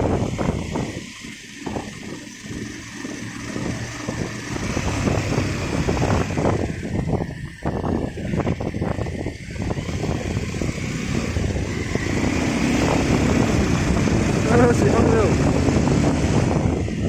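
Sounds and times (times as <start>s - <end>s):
motorcycle engine: 0.0s - 17.0s
wind buffeting microphone: 0.0s - 17.0s.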